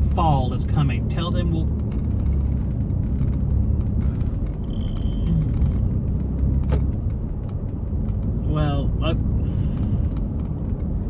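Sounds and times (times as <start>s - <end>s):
vehicle cabin road and engine rumble: 0.0s - 11.0s.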